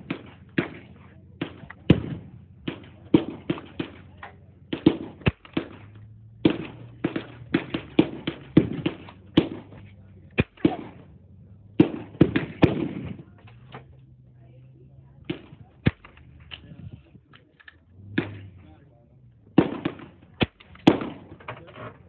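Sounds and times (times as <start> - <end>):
rapid gunshots echoing: 0.0 - 14.0, 15.2 - 16.8, 18.0 - 21.5.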